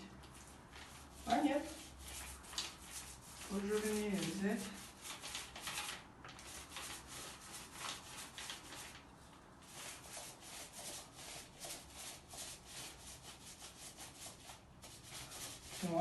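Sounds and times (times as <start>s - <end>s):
paint roller rubbing on wall: 0.0s - 9.0s, 9.6s - 16.0s.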